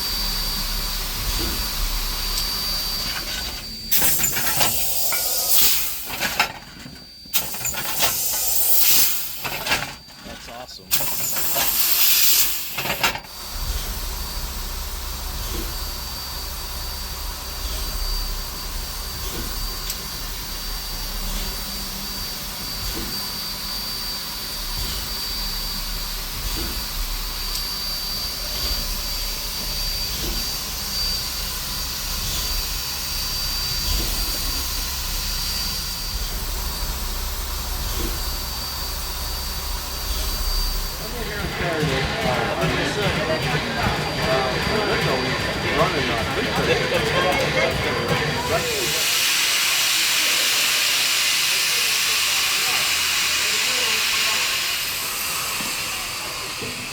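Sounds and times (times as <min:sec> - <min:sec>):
steam hissing: 0:00.0 - 0:56.9
steam train rumbling: 0:00.0 - 0:56.9.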